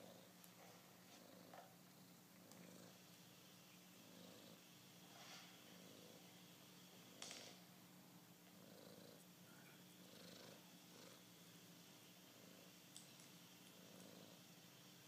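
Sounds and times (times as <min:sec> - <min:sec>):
cat purring: 0:00.0 - 0:07.5, 0:08.4 - 0:13.0, 0:13.6 - 0:15.0.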